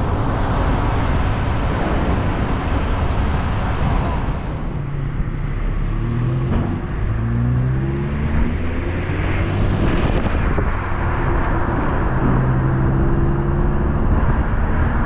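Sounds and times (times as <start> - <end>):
dense rushing noise: 0.0 - 15.0.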